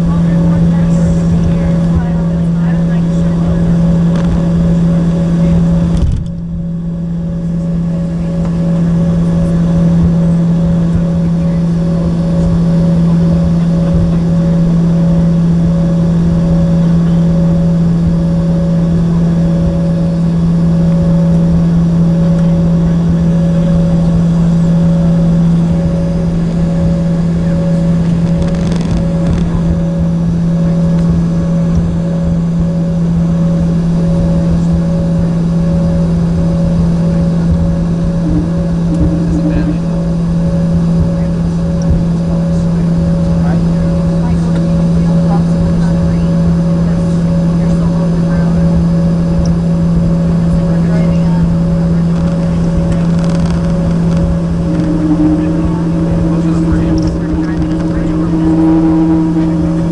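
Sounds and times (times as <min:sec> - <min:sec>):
jet engines humming in cabin: 0:00.0 - 0:59.9.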